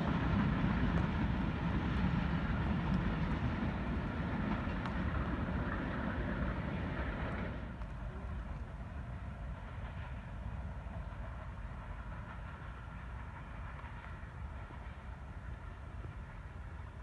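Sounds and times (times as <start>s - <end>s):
train coaches rumbling on track: 0.0s - 17.0s.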